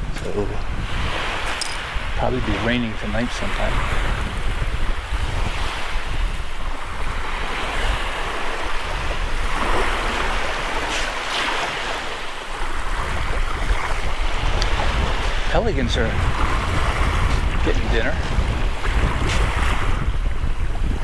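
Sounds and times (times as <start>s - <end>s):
waves washing onto sandy shore: 0.0s - 21.0s
wind buffeting microphone: 0.0s - 21.0s.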